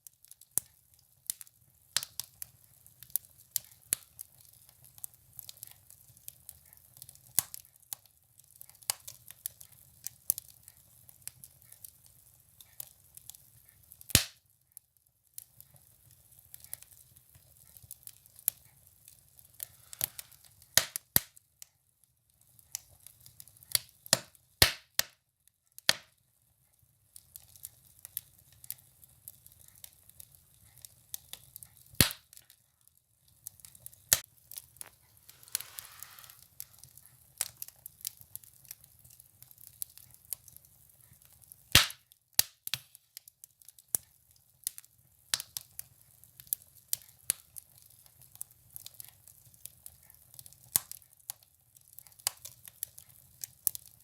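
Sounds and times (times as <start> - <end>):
firewood crackling and popping: 0.0 - 25.2, 26.8 - 54.0
soft hiss from fire: 0.0 - 54.0.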